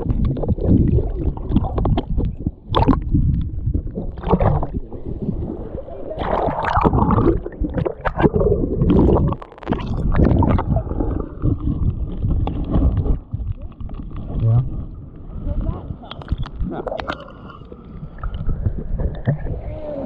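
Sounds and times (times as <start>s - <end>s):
seawater sloshing and gurgling: 0.0s - 20.0s
underwater rumble: 0.0s - 20.0s.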